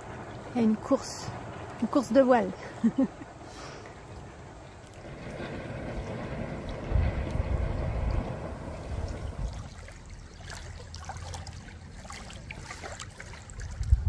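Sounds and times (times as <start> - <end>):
water lapping and trickling: 0.0 - 14.0
wind buffeting microphone: 0.0 - 14.0.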